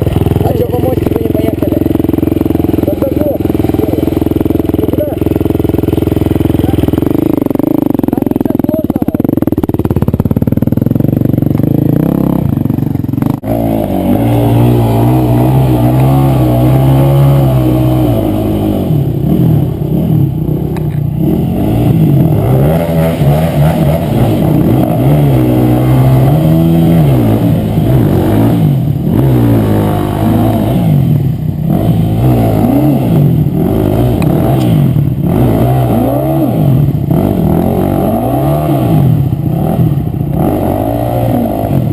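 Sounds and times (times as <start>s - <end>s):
motorcycle engines revving hard: 0.0s - 41.9s.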